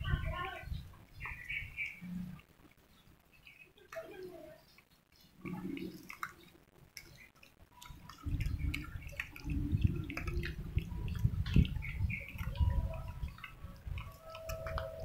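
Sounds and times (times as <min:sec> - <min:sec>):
cats lapping and chewing food: 0:00.9 - 0:15.0.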